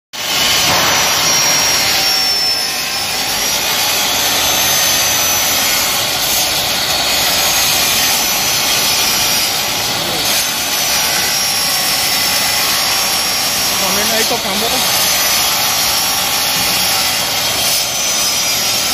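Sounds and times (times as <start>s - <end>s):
miter saw cutting plastic pipe: 0.2s - 18.9s.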